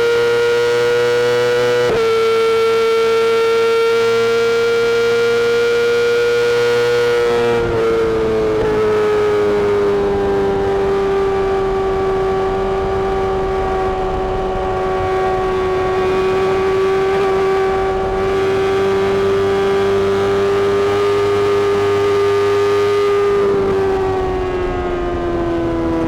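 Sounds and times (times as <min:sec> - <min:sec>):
motorcycle engine at high rpm: 0:00.0 - 0:26.0.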